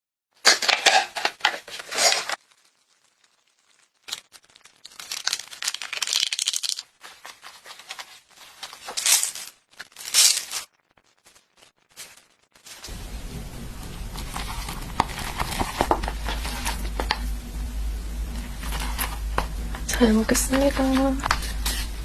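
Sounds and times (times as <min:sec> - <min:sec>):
packaging crinkling and tearing: 0:00.4 - 0:17.3, 0:18.0 - 0:22.0.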